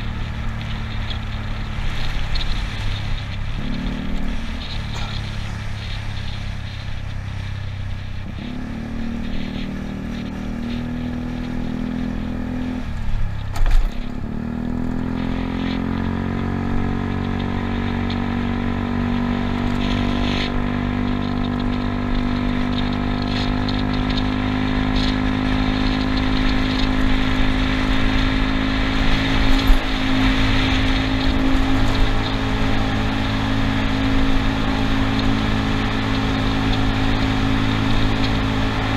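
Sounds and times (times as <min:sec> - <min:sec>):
scooter engine running: 0:00.0 - 0:11.0, 0:11.6 - 0:38.9
tyre and wind noise: 0:00.0 - 0:38.9.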